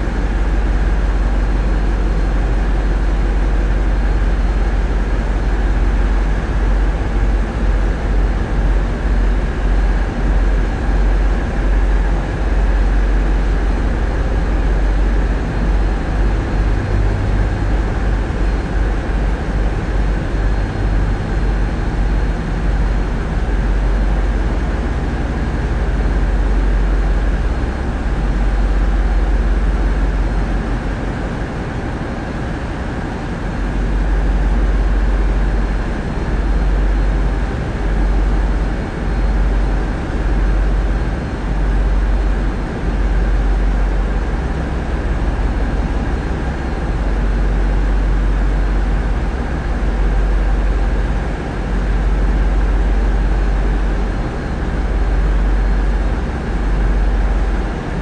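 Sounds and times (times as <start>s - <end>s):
diesel engines rumbling: 0.0s - 58.0s.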